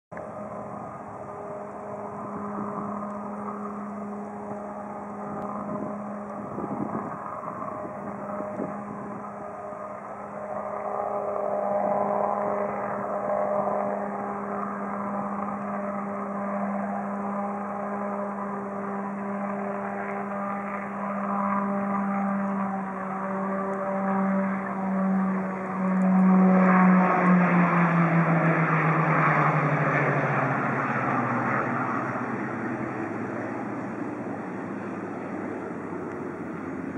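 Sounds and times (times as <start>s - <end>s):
rushing engine noise: 0.1s - 36.9s
turboprop aircraft droning: 0.1s - 36.9s.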